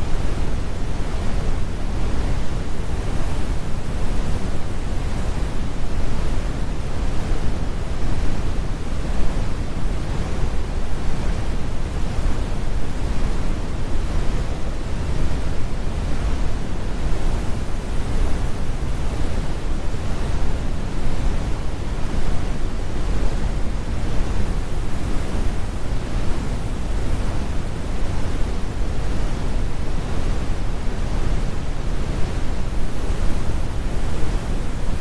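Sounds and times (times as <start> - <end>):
brown noise rumble: 0.0 - 35.0.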